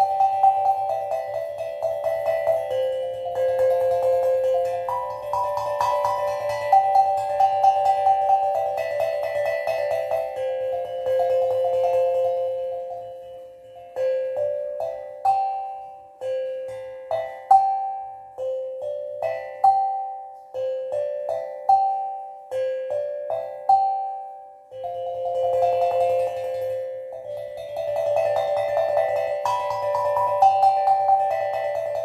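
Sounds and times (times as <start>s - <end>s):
steel tongue drum notes: 0.0s - 32.0s.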